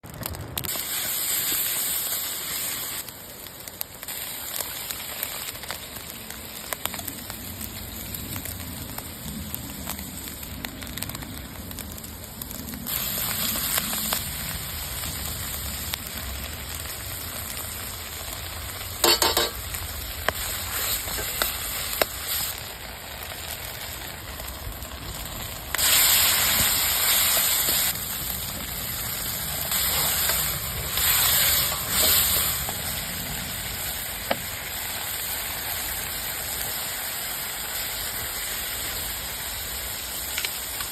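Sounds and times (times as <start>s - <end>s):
food sizzling in a frying pan: 0.3s - 40.9s.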